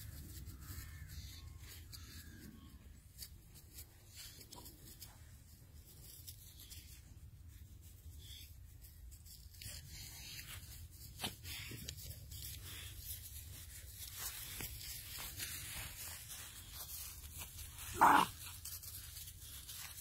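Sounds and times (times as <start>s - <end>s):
crunches on frosty grass: 0.0s - 20.0s.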